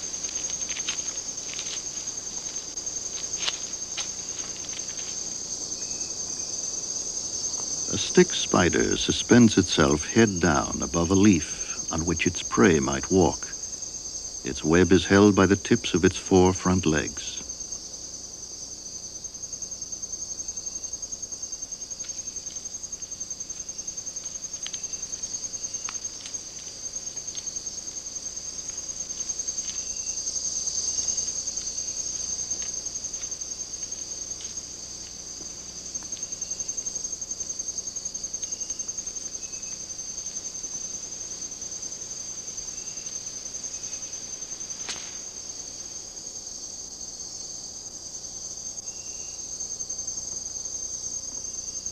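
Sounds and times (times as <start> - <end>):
insects trilling: 0.0 - 51.9.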